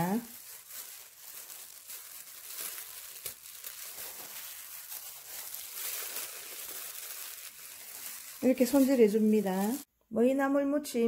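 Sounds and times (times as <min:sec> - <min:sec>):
leaves rustling: 0:00.0 - 0:09.9
plastic gloves crinkling: 0:00.0 - 0:09.9.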